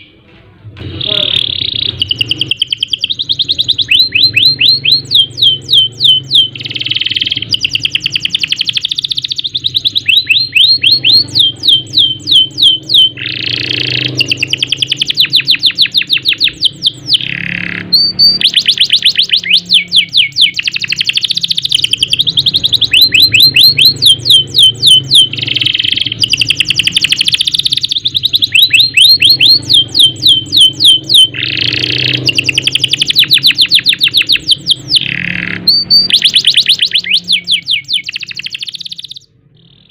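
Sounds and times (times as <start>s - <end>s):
canary singing rolling trills: 0.8s - 39.9s.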